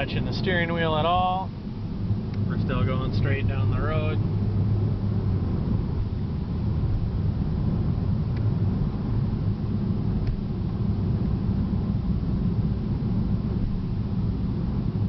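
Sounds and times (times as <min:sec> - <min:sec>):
car cabin engine and tyre rumble: 0:00.0 - 0:15.0.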